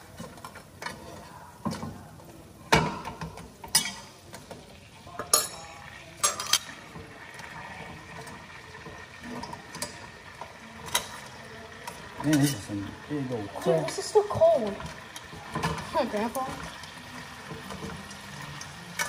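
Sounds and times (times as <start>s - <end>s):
utensils stirring food in pot: 0.0s - 19.0s.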